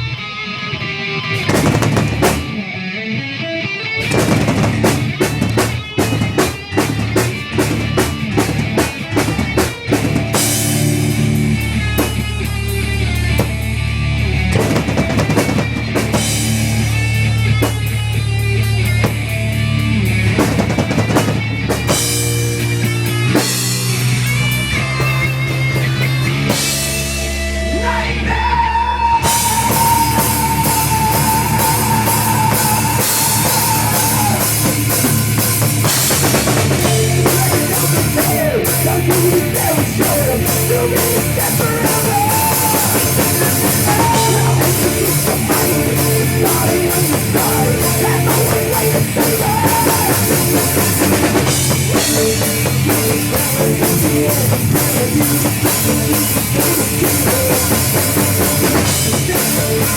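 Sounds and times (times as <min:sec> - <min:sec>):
electric guitar lead: 0:00.0 - 0:59.9
heavy drum kit: 0:01.1 - 0:02.9, 0:04.0 - 0:59.9.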